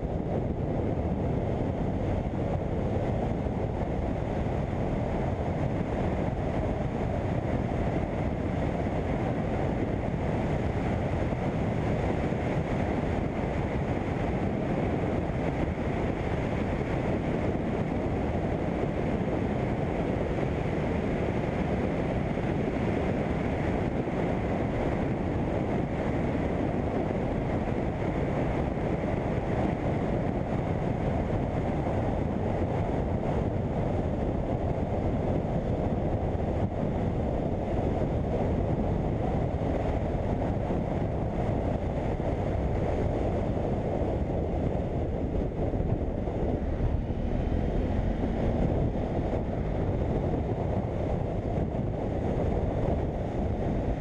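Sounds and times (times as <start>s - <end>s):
wind rush over microphone: 0.0s - 54.0s.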